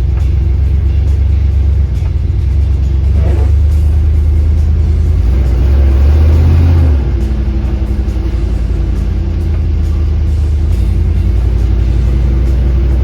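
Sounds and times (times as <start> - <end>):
car engine deep exhaust note: 0.0 - 13.0.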